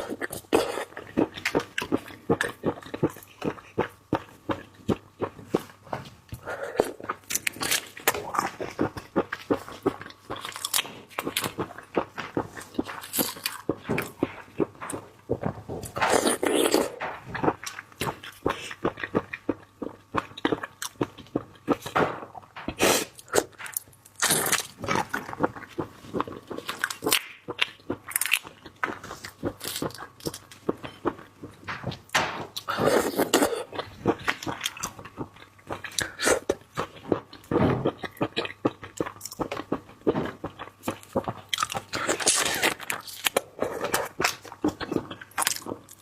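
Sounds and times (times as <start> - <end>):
person chewing and crunching: 0.0 - 46.0.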